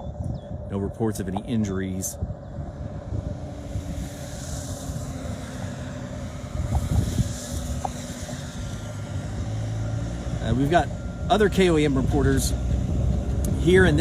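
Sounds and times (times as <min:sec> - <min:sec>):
engine humming: 0:00.0 - 0:14.0
highway traffic tyre hiss: 0:02.6 - 0:14.0.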